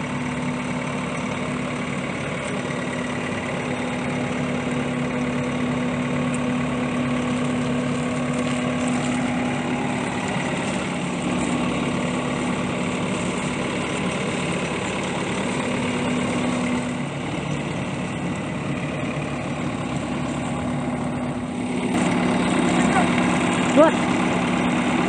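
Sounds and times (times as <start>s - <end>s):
engine idling: 0.0s - 25.0s
hose spraying water: 0.0s - 25.0s.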